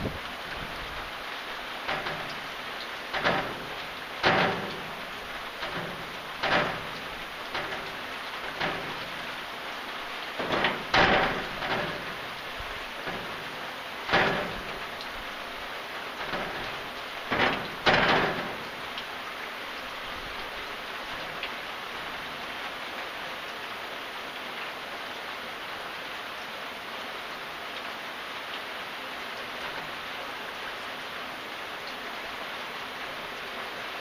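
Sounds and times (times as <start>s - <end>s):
steady rainfall: 0.0s - 34.0s.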